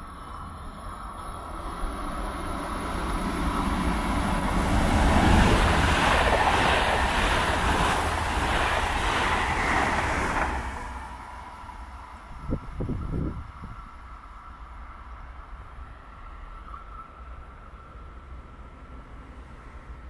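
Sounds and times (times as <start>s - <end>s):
train passing on rails: 0.0s - 20.0s.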